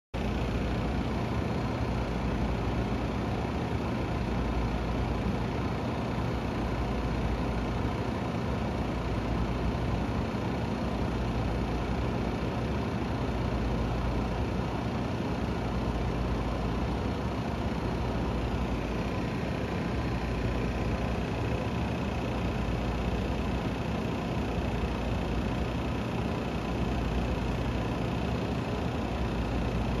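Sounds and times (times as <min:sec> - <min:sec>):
aquarium pump hum: 0:00.2 - 0:30.0.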